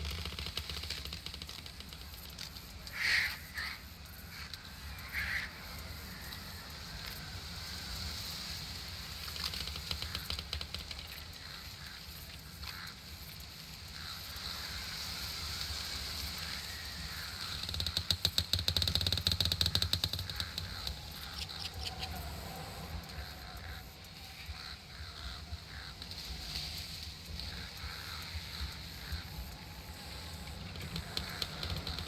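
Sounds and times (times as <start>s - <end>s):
rapid ticking trills: 0.0s - 32.0s
soft nature background: 0.0s - 32.0s.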